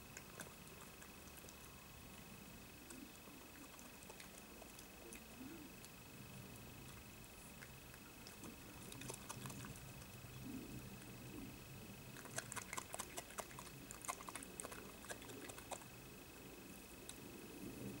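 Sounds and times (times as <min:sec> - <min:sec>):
badger crunching and chewing: 0:00.0 - 0:11.3, 0:12.1 - 0:16.0.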